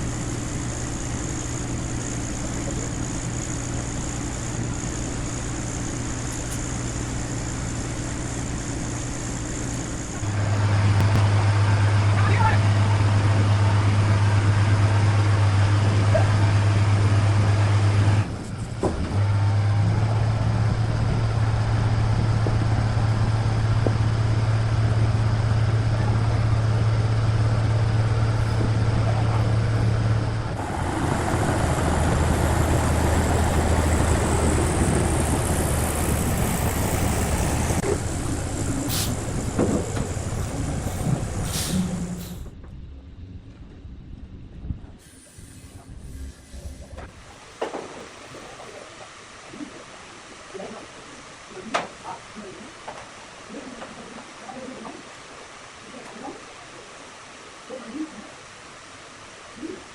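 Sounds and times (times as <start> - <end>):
heavy engine running: 0.0 - 48.2.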